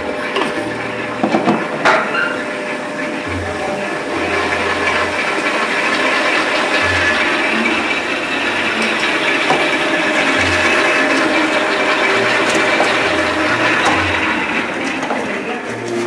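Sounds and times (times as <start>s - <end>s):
stand mixer whirring: 0.0s - 16.0s.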